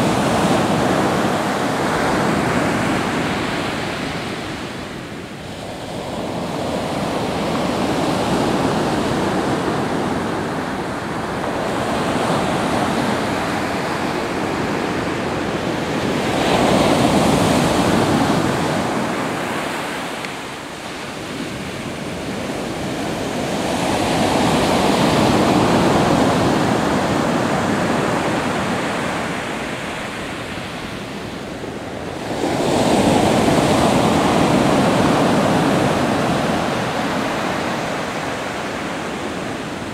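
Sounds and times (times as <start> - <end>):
waves crashing on shore: 0.0 - 39.9.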